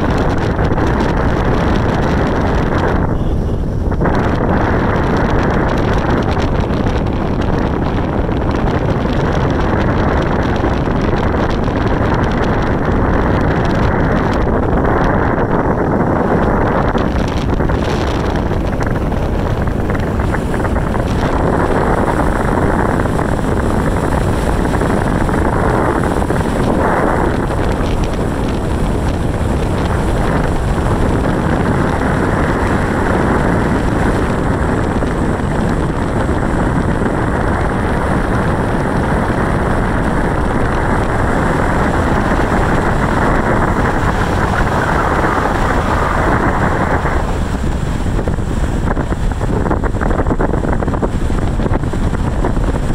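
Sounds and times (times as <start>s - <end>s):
wind and road noise in car: 0.0s - 52.9s.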